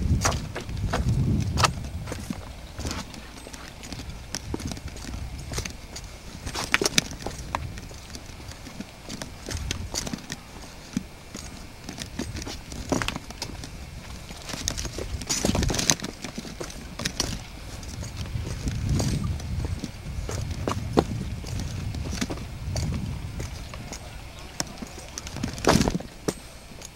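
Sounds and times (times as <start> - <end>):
shoes scuffing on rock: 0.1 - 26.9.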